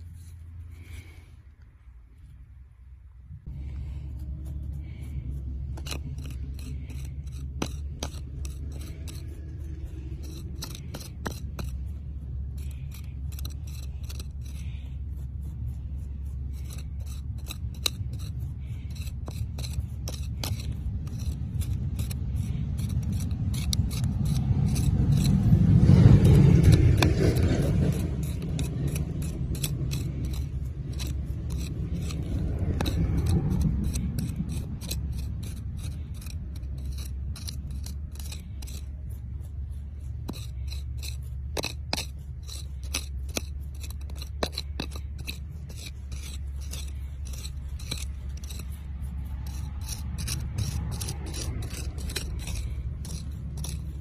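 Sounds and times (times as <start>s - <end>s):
stick scraping through gritty soil: 0.0s - 2.5s, 3.4s - 54.0s
low rumble: 0.0s - 54.0s.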